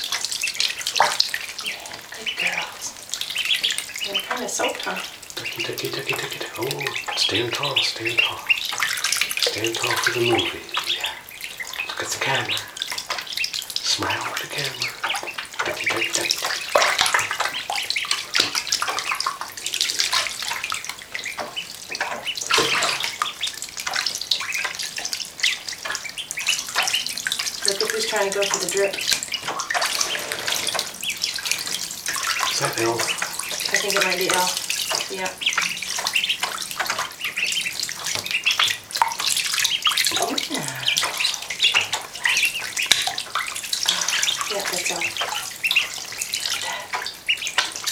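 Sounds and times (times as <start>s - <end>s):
ducklings peeping: 0.0s - 47.9s
water splashing and sloshing: 0.0s - 47.9s.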